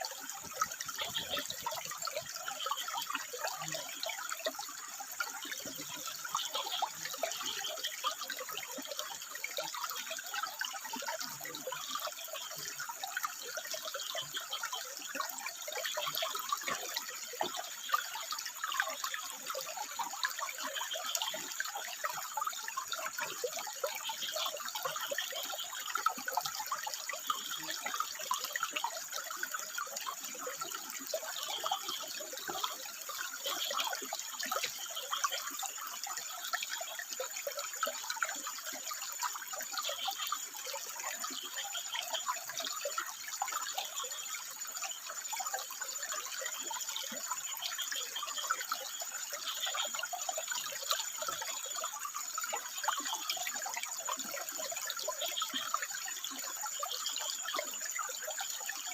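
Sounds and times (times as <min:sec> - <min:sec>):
frogs calling: 0:00.0 - 0:58.9.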